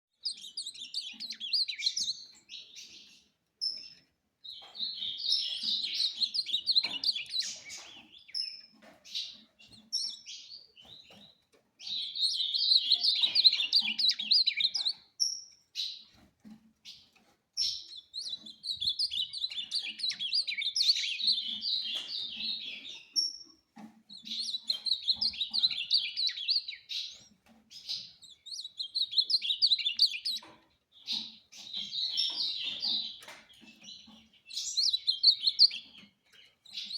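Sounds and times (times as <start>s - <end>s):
bird singing warbled phrases: 0.2s - 16.2s, 16.9s - 23.5s, 24.1s - 36.9s.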